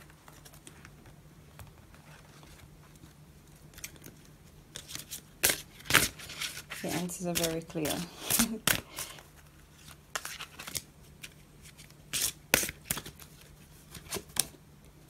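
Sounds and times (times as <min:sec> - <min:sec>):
cards shuffling: 0:00.0 - 0:14.6.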